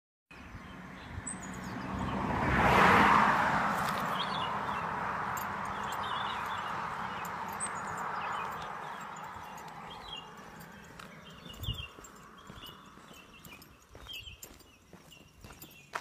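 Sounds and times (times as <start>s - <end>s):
small birds chirping: 0.3s - 2.2s, 3.8s - 16.0s
vehicle passing: 0.4s - 16.0s.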